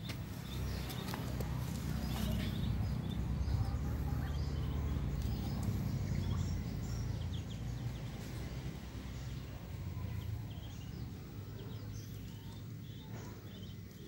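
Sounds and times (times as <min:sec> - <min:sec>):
ducklings peeping: 0:00.0 - 0:14.0
steady low rumble: 0:00.1 - 0:14.0.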